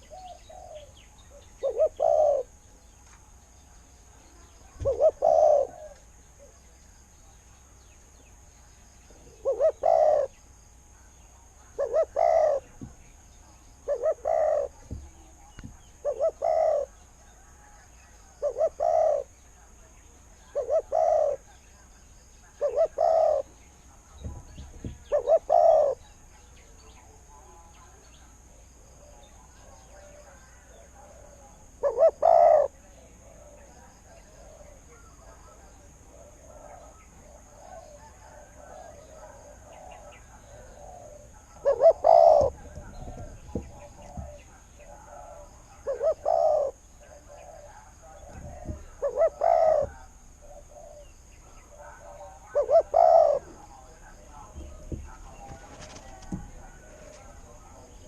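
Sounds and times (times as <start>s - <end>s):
dove cooing: 0.0s - 2.6s, 4.3s - 6.6s, 9.1s - 10.4s, 11.5s - 19.4s, 20.4s - 28.0s, 28.8s - 58.0s.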